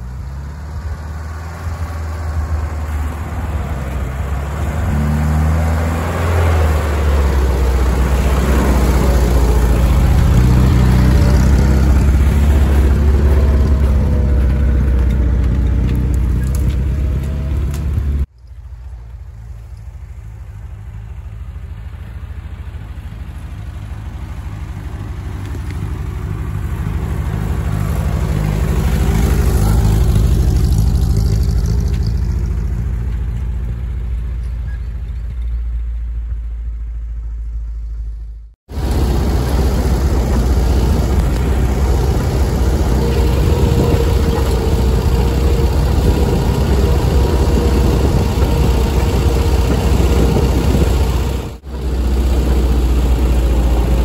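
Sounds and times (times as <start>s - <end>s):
car engine driving through snow: 0.0s - 54.0s.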